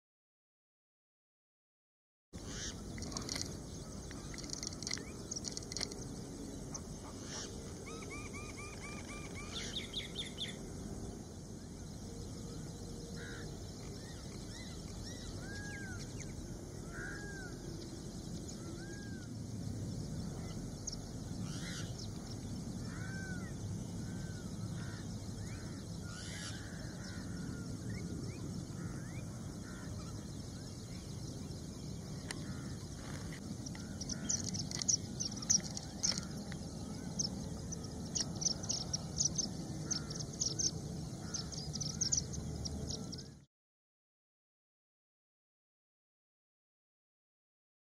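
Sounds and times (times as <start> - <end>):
outdoor background hiss: 2.4 - 43.3
birds chirping: 2.4 - 43.5.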